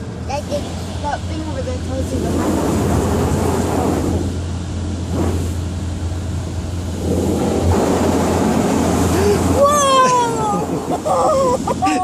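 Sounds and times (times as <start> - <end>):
car wash rushing water: 0.0 - 12.0
constant low hum: 0.0 - 12.0.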